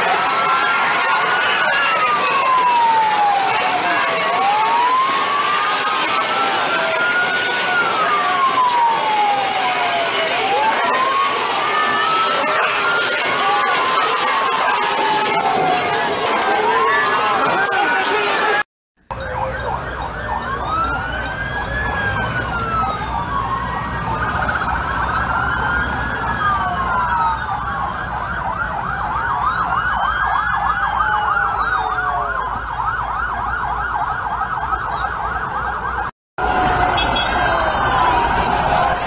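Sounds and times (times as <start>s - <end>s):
fast siren yelp: 0.0s - 39.0s
sirens wailing: 0.0s - 39.0s.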